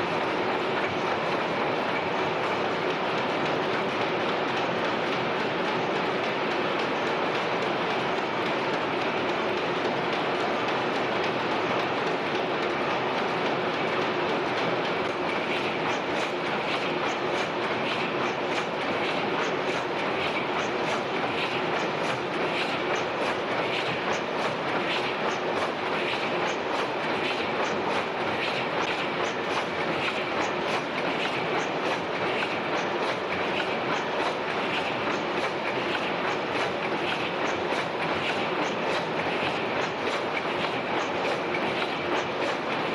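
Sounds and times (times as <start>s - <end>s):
pumping engines clattering: 0.0s - 42.9s.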